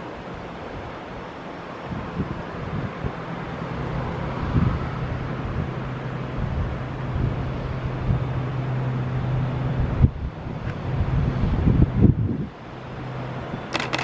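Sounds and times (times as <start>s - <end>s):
train running with low drone: 0.0s - 14.0s
wind buffeting microphone: 1.8s - 14.0s.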